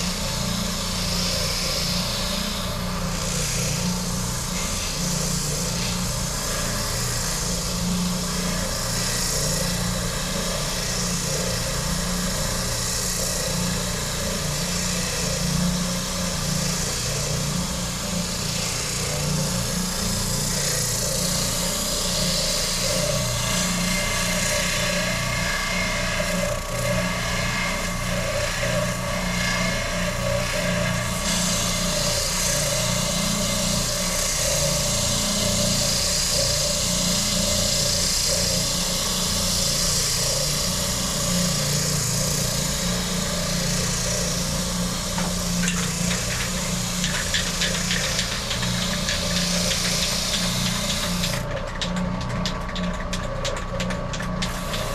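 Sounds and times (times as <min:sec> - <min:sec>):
power tool sanding wood: 0:00.0 - 0:54.9.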